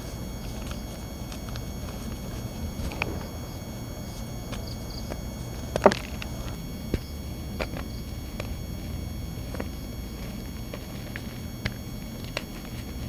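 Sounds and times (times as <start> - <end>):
cornstarch blocks crunching: 0.0 - 13.0
electrical buzz: 0.0 - 13.0.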